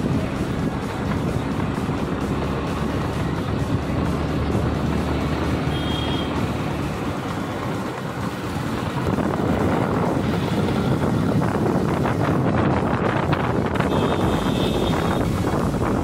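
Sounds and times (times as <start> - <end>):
wind buffeting microphone: 0.0 - 5.6, 6.5 - 16.0
vehicle engine running: 0.0 - 16.0.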